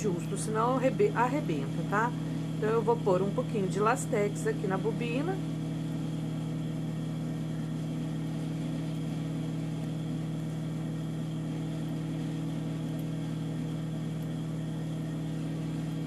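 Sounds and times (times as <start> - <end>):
low electric motor hum: 0.0 - 16.0.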